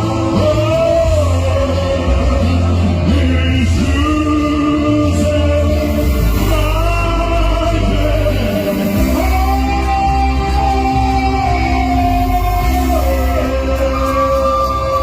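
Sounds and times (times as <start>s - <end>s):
live band music: 0.0s - 15.0s
person singing long notes: 0.0s - 15.0s.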